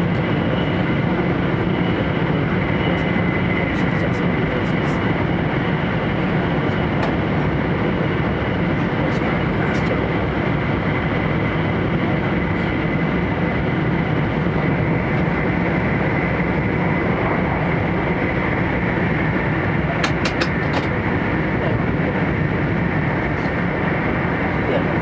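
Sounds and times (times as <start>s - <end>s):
train running rumble and rush: 0.0s - 25.0s.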